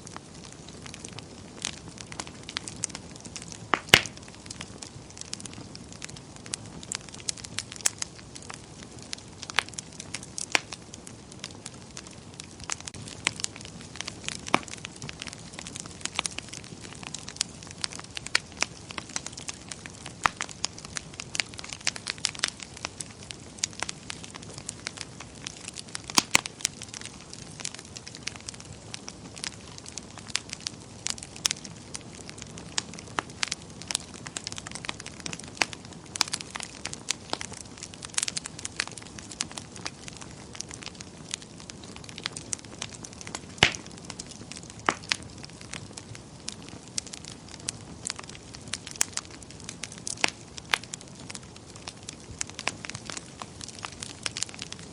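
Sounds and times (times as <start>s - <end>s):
low rumble of flame: 0.0s - 54.9s
wood fire crackling and popping: 0.0s - 54.9s.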